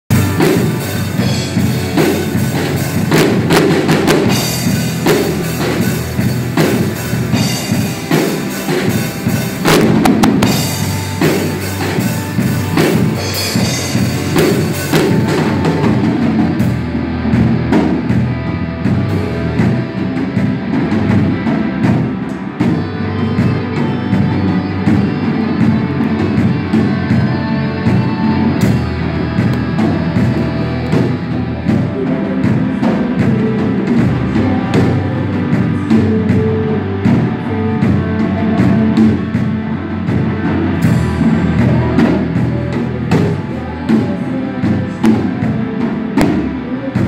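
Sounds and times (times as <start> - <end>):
live rock band playing: 0.1 - 47.0.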